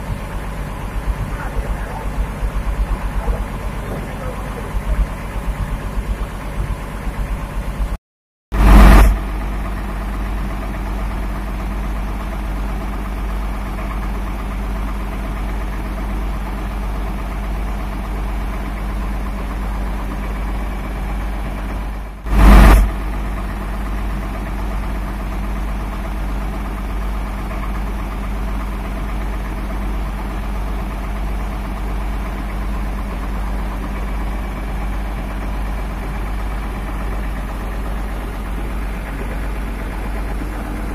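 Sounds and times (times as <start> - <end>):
engine idling: 0.0 - 8.0, 8.6 - 40.9.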